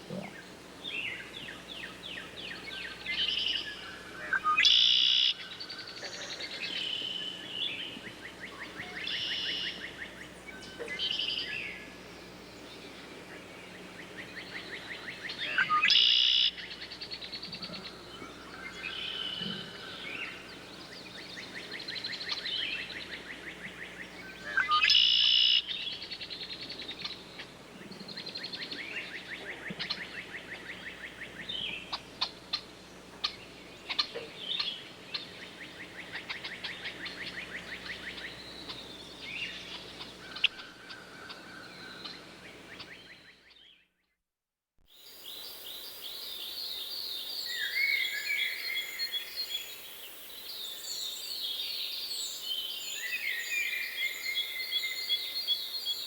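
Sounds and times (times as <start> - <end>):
songbirds chirping and trilling: 0.0 - 44.0, 45.0 - 56.0.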